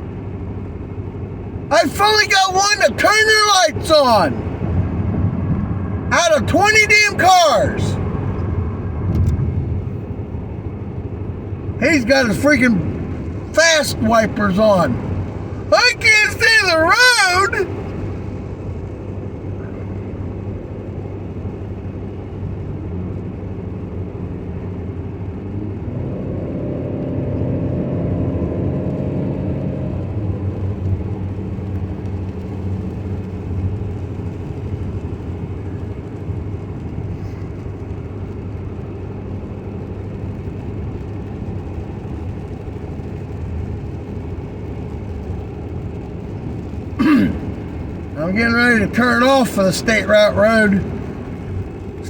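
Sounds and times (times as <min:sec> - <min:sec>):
car road and engine noise: 0:00.0 - 0:52.0
tyres on wet road: 0:00.0 - 0:52.0.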